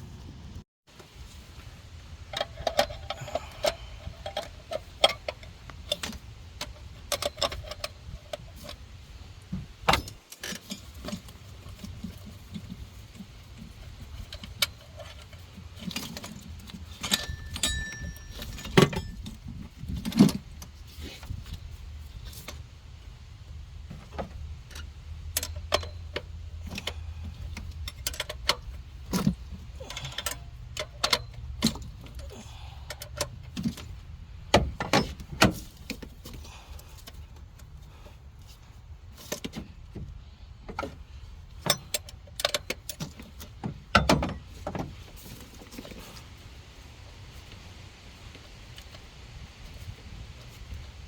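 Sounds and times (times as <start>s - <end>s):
metal tools clinking on engine parts: 2.2s - 8.8s, 9.8s - 22.6s, 23.9s - 39.8s, 40.7s - 46.3s.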